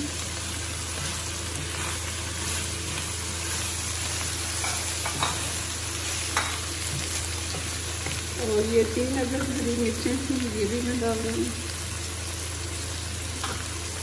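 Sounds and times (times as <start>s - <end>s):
vegetables sizzling in wok: 0.0s - 14.0s.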